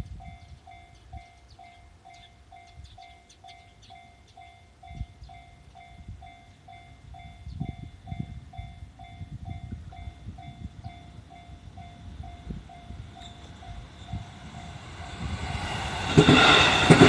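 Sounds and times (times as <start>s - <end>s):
electric train rumble: 0.0s - 17.0s
level crossing warning bell: 0.1s - 15.8s.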